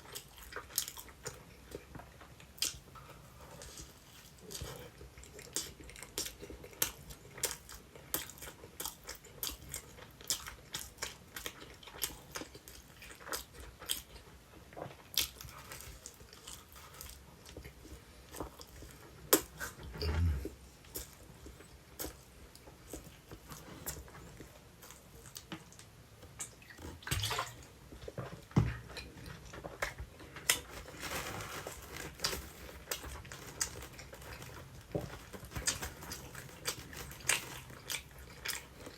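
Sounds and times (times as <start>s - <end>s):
chewing and crunching: 0.0s - 38.9s.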